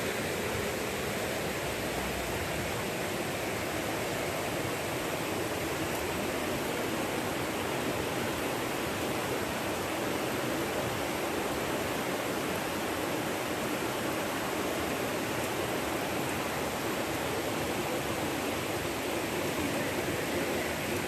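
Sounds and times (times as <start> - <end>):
river water rushing over rocks: 0.0 - 21.0.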